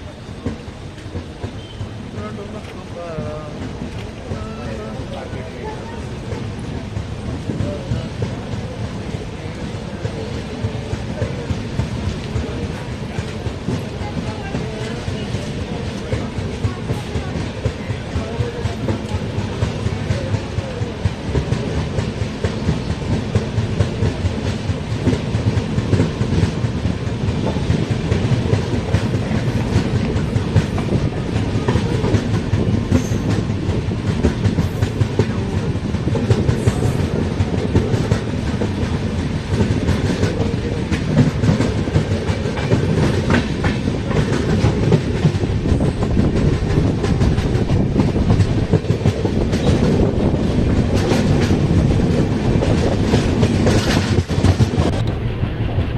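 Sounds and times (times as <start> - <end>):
train wheels clicking over rails: 0.0 - 55.9.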